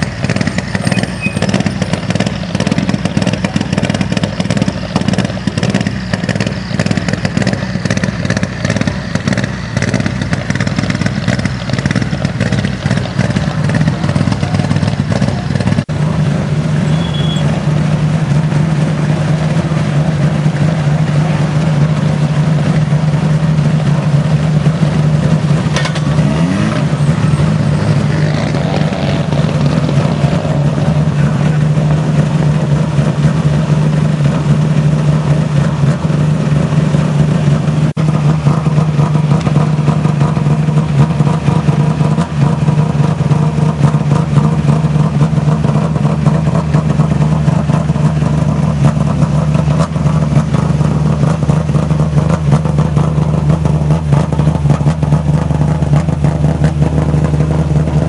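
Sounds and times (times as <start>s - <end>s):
rally car engine running: 0.0s - 58.0s.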